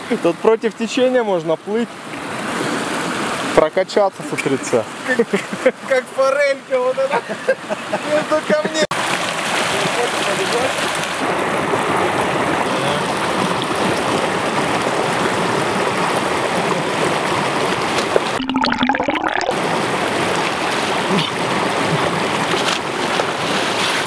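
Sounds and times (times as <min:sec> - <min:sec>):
stream rushing over stones: 0:00.0 - 0:07.1, 0:07.8 - 0:24.0.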